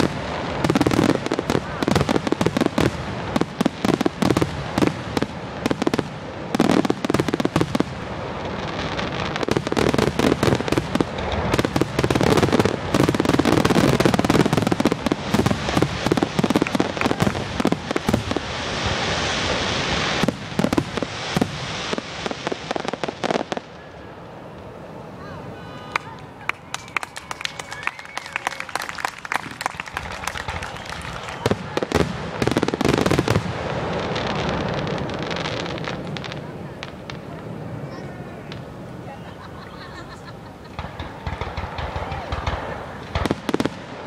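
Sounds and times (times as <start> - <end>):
hissing crackle: 0.0 - 25.2, 25.9 - 44.0
fireworks crackling: 0.0 - 44.0.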